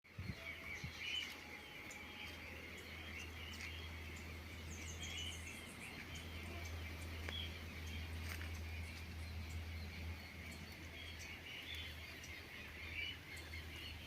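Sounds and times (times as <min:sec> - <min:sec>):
birds chirping: 0:00.1 - 0:14.0
steady low hum: 0:00.4 - 0:14.0.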